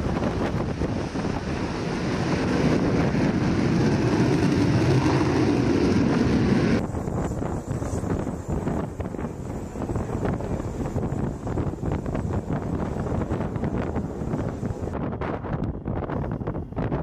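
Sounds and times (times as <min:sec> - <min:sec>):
jet engine at takeoff power: 0:00.0 - 0:15.2
wind buffeting microphone: 0:00.0 - 0:17.0.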